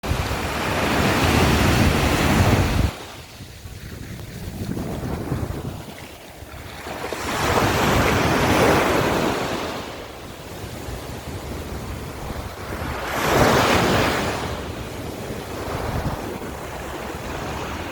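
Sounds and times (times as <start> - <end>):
waves breaking: 0.0 - 17.9
wind rumble on microphone: 0.0 - 17.9.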